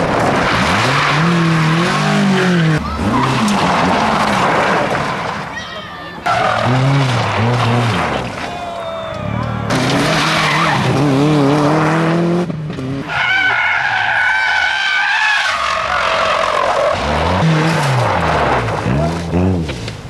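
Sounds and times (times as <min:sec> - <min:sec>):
rally car engines revving: 0:00.0 - 0:05.6, 0:06.2 - 0:20.0.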